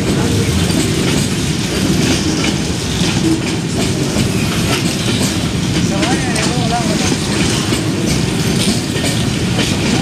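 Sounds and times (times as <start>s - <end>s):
freight train rumbling past: 0.0s - 10.0s
wheels clicking over rail joints: 0.0s - 10.0s.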